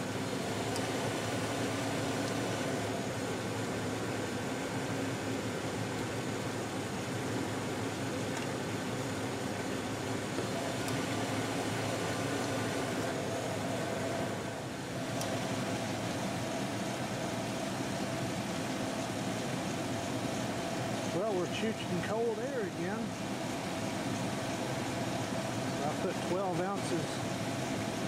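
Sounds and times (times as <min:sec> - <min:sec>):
air-conditioning compressor running: 0:00.0 - 0:28.0
truck engine idling: 0:00.0 - 0:28.0.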